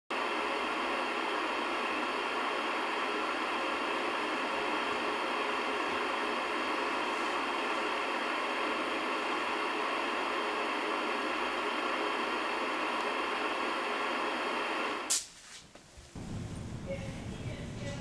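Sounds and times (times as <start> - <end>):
static white noise hiss: 0.1 - 18.0.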